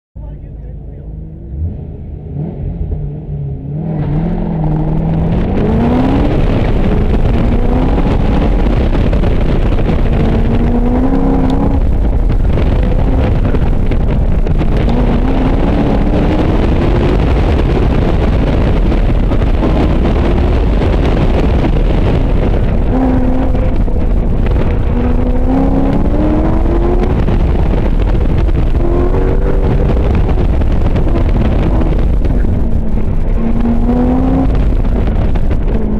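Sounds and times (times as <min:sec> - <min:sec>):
car engine accelerating: 0:00.2 - 0:35.9
road and wind noise: 0:00.2 - 0:35.9.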